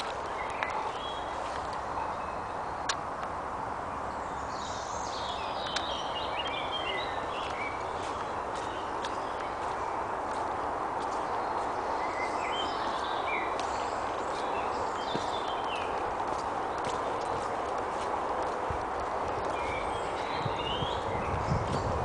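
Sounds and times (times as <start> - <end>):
footsteps on dirt path: 0.0 - 1.9, 5.6 - 22.0
songbird chirps and trills: 0.0 - 22.0.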